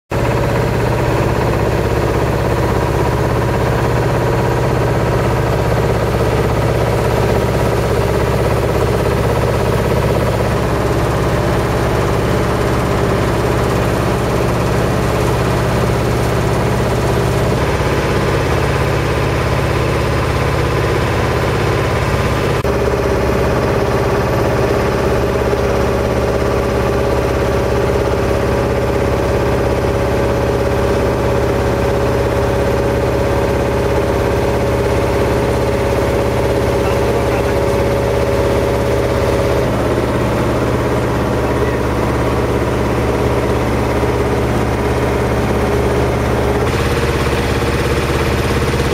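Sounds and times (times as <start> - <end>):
boat engine humming: 0.1 - 48.9.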